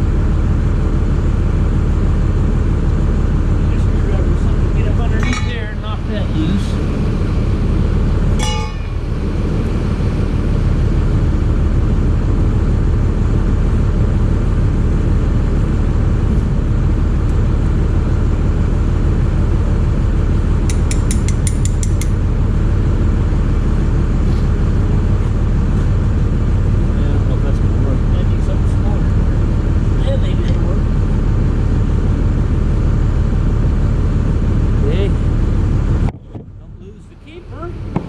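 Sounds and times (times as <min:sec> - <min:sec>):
engine drone: 0:00.0 - 0:38.0.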